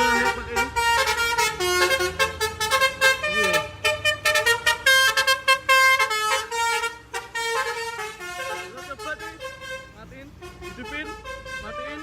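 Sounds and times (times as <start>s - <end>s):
musical bus horn melody: 0.0s - 12.0s.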